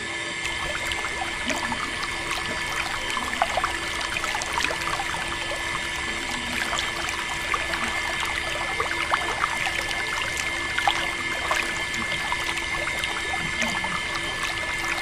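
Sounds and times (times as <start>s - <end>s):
steady hum: 0.4s - 15.0s
water pouring and trickling: 0.4s - 15.0s.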